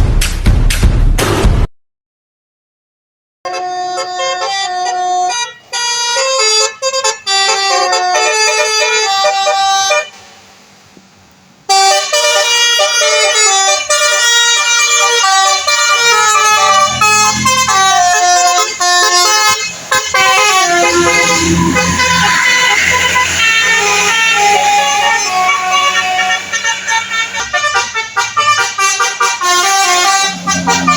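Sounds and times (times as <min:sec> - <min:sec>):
multi-tone musical air horn: 0:03.5 - 0:10.3, 0:11.7 - 0:30.9
vehicle engine rumble: 0:03.5 - 0:30.9.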